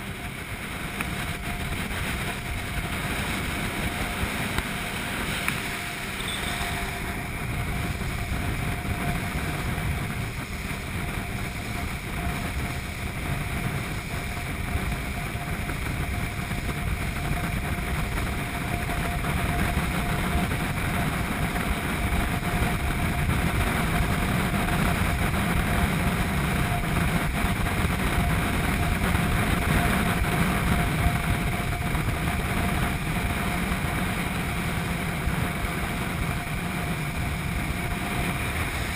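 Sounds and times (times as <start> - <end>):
speedboat engine droning: 0.0 - 38.9.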